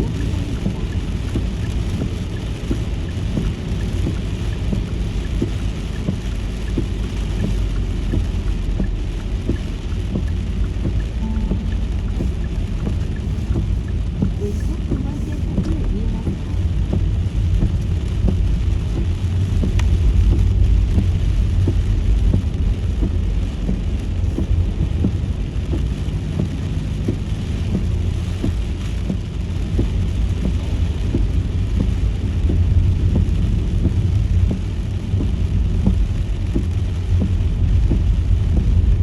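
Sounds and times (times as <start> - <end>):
car driving on wet road: 0.0 - 39.0
raindrops ticking on car: 0.0 - 39.0.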